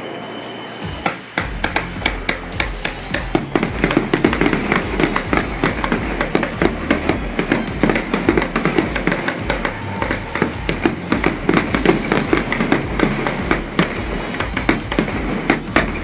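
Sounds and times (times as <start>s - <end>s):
fireworks bangs and crackles: 0.9s - 16.0s.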